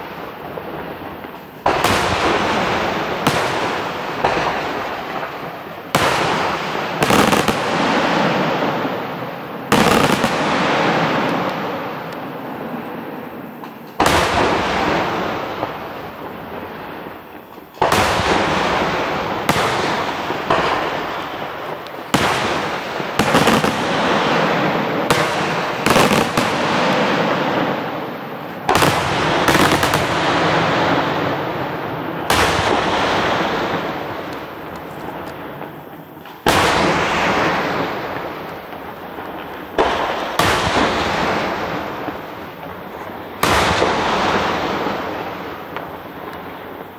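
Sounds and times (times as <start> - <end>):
firework shells bursting: 0.0 - 46.9.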